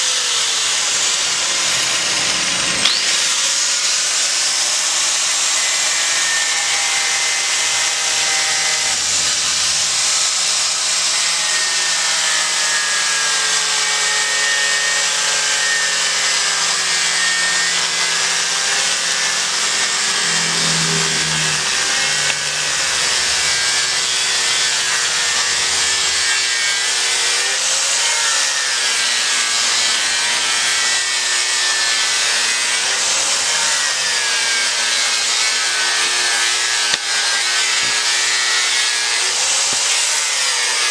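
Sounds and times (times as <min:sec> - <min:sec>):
angle grinder grinding wood: 0:00.0 - 0:40.9
grinder motor whine: 0:00.0 - 0:40.9.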